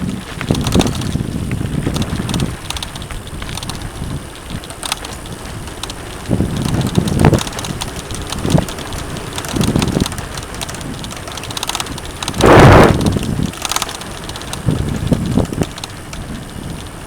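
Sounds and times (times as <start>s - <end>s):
bike knocking and rattling: 0.0s - 17.0s
tyres rumbling on dirt: 0.0s - 17.0s
wind buffeting microphone: 0.0s - 17.0s.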